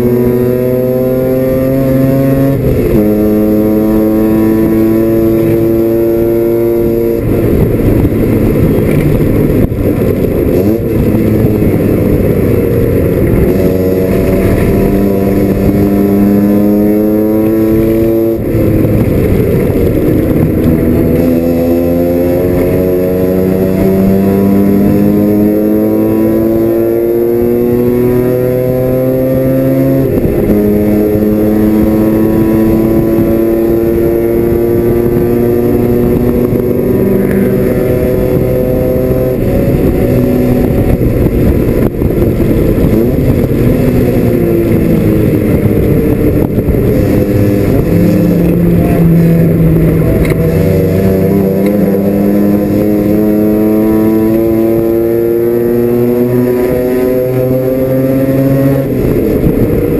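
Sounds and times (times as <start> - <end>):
rotary engine at high revs: 0.0 - 59.9.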